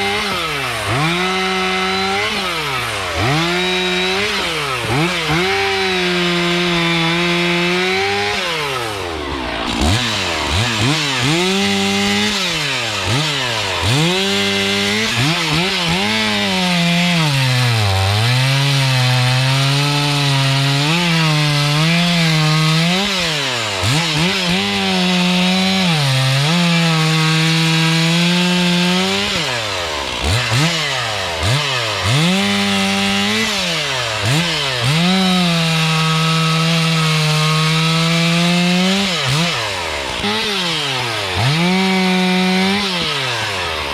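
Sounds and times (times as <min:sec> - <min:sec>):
chainsaw cutting logs: 0:00.0 - 0:43.9.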